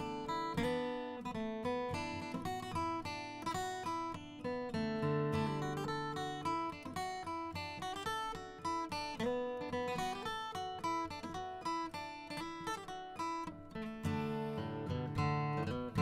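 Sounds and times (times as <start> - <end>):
acoustic guitar plucking and strumming: 0.0 - 16.0.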